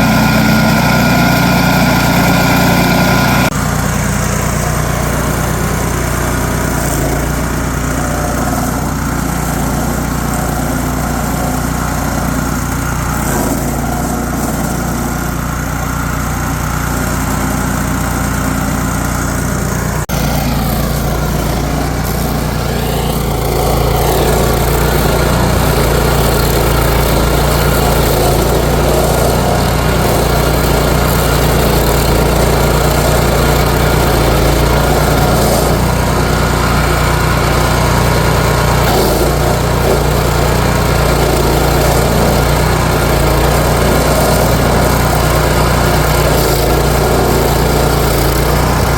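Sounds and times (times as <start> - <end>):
stump grinder engine running: 0.0 - 48.9.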